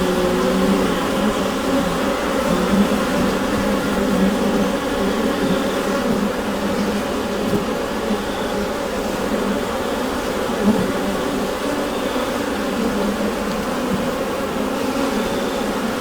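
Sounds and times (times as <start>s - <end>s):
honeybees humming in a hive: 0.0s - 16.0s.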